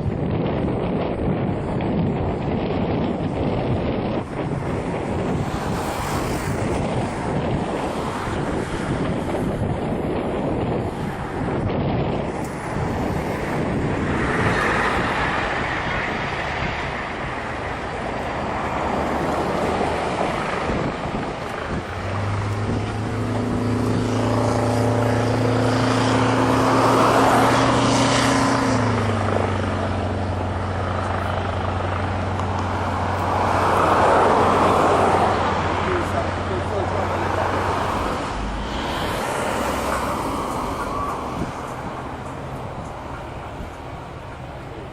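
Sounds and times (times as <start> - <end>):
aircraft rushing noise: 0.0 - 44.9
low engine hum: 0.0 - 44.9.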